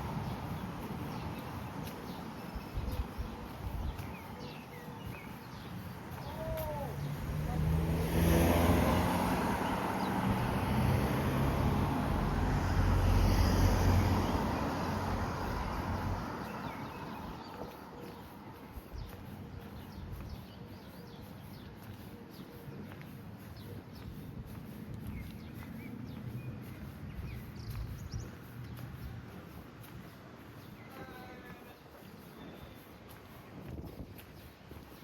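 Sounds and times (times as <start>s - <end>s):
vehicle engine rumble: 0.0s - 20.3s, 21.3s - 30.9s.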